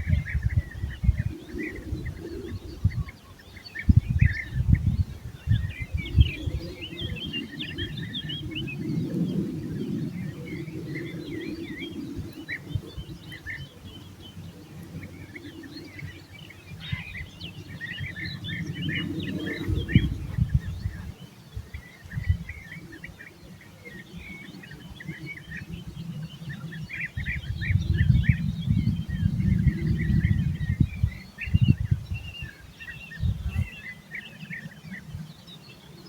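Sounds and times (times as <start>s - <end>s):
small birds chirping: 0.0s - 36.0s
wind rumble on microphone: 0.0s - 36.0s.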